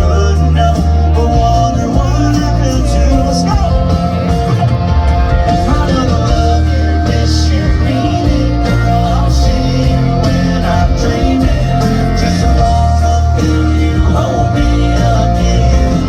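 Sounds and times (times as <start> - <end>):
man singing lead: 0.0 - 4.5, 5.2 - 16.0
country band playing: 0.0 - 16.0.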